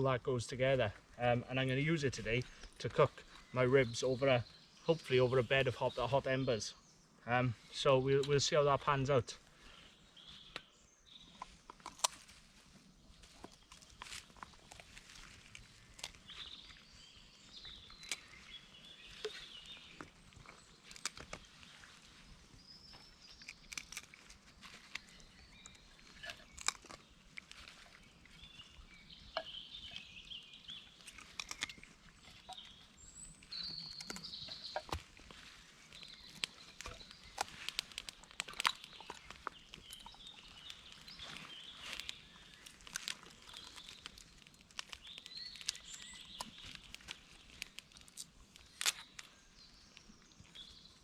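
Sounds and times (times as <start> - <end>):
birds singing: 0.0 - 12.2, 13.0 - 51.0.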